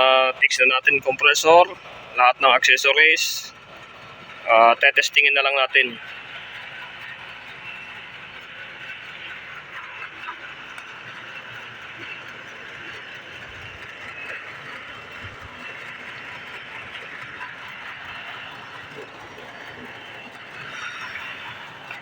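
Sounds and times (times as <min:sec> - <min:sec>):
air conditioner outdoor unit running: 0:00.0 - 0:22.0.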